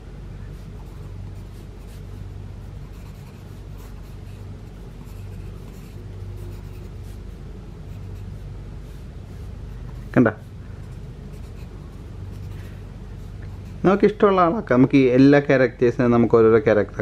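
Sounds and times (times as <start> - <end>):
steady low hum: 0.0 - 17.0
pencil scratching on paper: 0.5 - 14.2.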